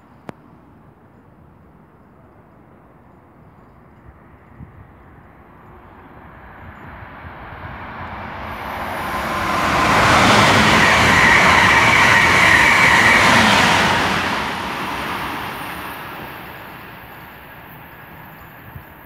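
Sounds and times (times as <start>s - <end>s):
high whine of train: 0.7s - 19.0s
high-speed train passing: 2.2s - 19.0s.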